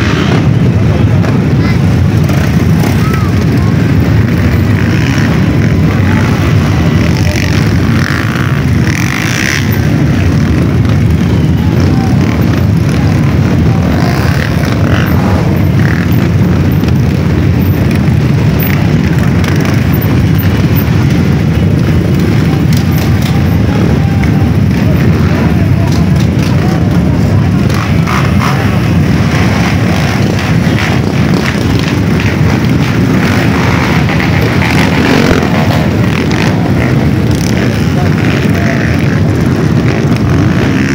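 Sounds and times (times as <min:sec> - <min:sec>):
dirt bike engines running: 0:00.0 - 0:40.9.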